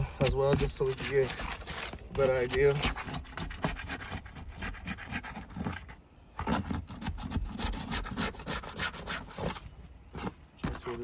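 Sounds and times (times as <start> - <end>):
roof shingles rasping scrapes: 0.0 - 11.0.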